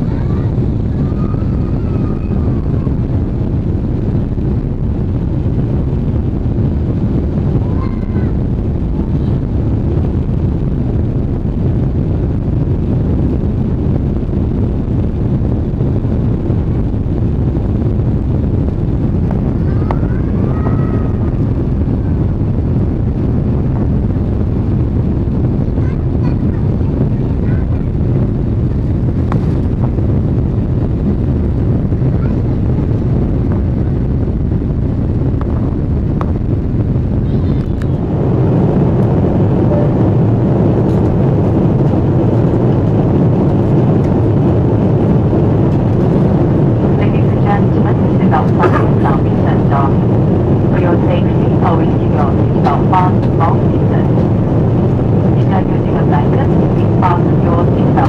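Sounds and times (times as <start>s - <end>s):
jet engine rumble in cabin: 0.0s - 58.0s.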